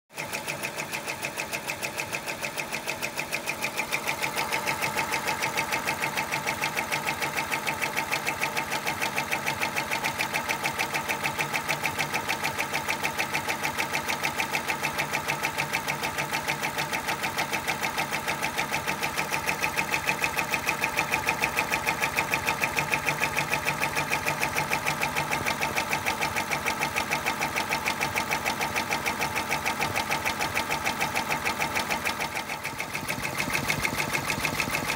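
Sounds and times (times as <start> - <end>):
embroidery machine stitching: 0.2 - 34.9.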